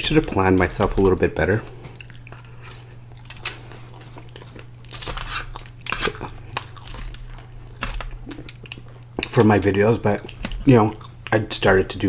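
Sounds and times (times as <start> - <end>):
steady low hum: 0.0 - 12.0
person chewing: 0.1 - 11.6.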